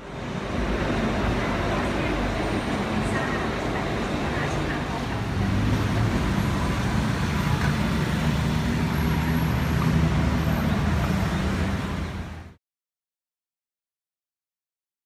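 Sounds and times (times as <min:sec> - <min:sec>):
traffic engines rumbling: 0:00.0 - 0:12.6.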